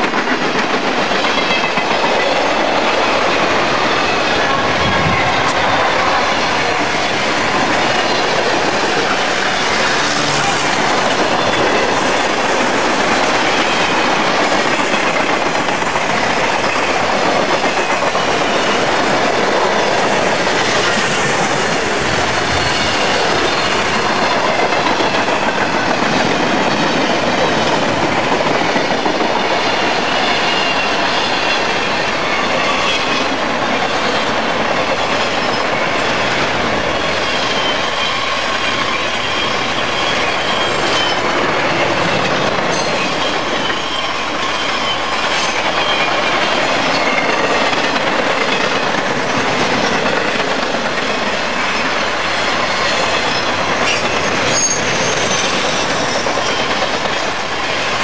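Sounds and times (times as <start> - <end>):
freight train wheels rumbling: 0.0 - 58.0
wheels squealing on rail: 0.0 - 58.0.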